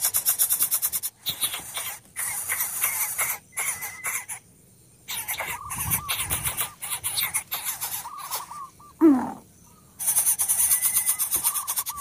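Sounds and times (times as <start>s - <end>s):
nestlings hissing harshly: 0.0s - 4.4s, 5.0s - 8.7s, 10.0s - 12.0s
nestlings squeaking: 0.0s - 9.4s, 10.0s - 12.0s.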